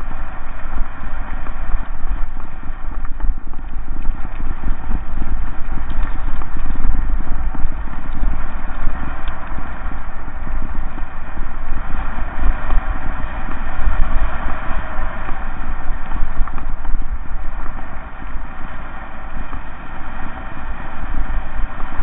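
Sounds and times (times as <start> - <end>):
bike tyres crunching over gravel: 0.0 - 22.0
wind rumbling on microphone: 0.0 - 22.0.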